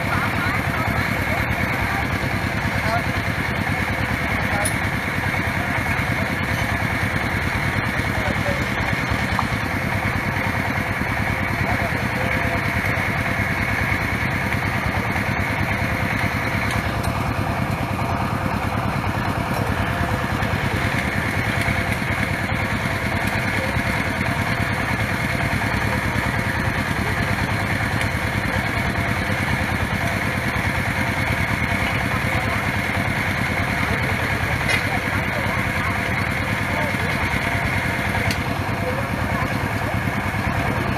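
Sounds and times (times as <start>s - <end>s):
stationary engine running under load: 0.0s - 40.9s.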